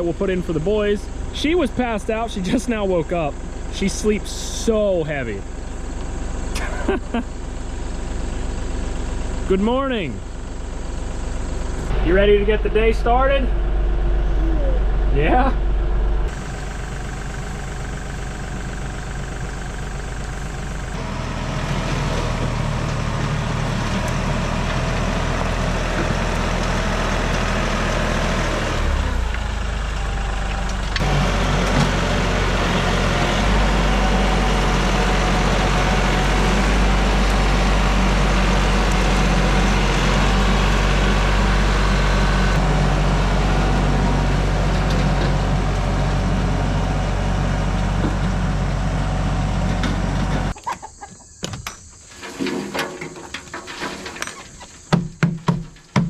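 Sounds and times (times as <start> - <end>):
tractor engine running: 0.0 - 52.1.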